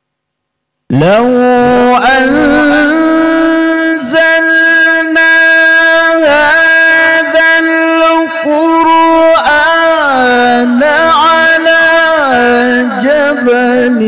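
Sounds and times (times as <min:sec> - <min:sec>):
man reciting melodically: 0:00.9 - 0:14.0.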